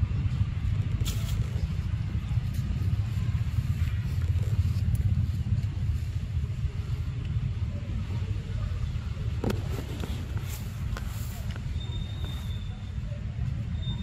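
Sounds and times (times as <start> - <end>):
fluttering low rumble: 0.0 - 12.4.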